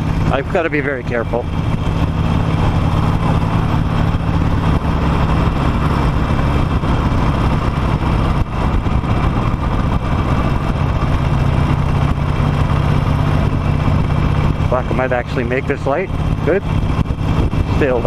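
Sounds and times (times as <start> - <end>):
motorcycle engine idling low: 0.0 - 18.0.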